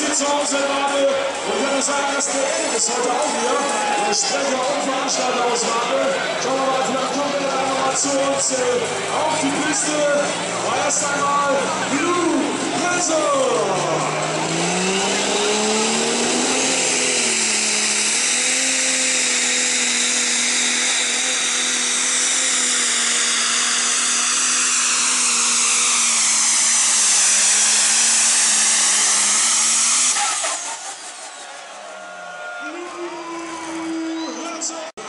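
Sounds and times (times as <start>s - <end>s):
diesel tractor engine at full throttle: 0.0s - 32.0s
turbocharger whine: 0.0s - 32.0s.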